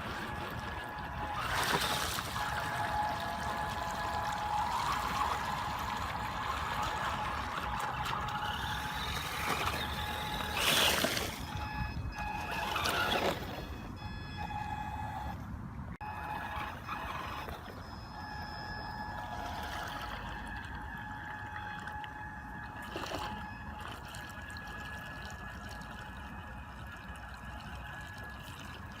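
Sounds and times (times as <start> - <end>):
water splashing and gurgling: 0.0 - 15.3, 16.0 - 29.0
electric motor whining: 0.0 - 15.4, 16.0 - 29.0.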